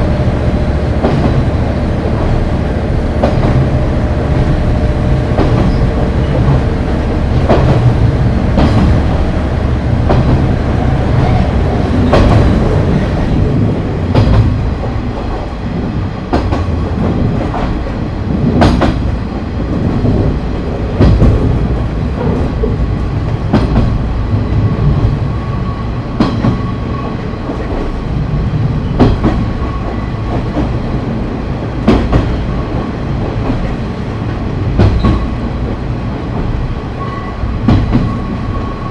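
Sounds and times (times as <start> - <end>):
train wheel noise: 0.0 - 38.9.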